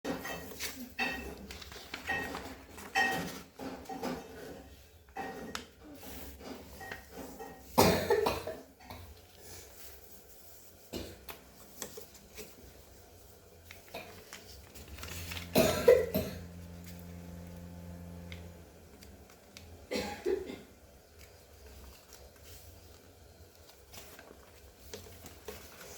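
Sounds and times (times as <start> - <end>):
paper rustling and folding: 0.1 - 7.8, 9.0 - 25.9.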